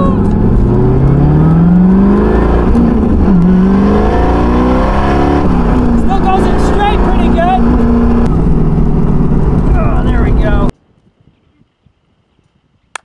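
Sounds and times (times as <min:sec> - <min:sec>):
car engine accelerating: 0:00.0 - 0:10.7
road and wind noise: 0:00.0 - 0:13.0.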